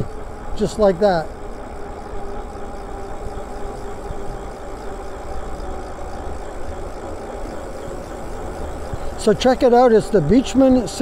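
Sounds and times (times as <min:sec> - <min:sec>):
faint steady hum: 0:00.0 - 0:11.0
wind and road rush: 0:00.0 - 0:11.0.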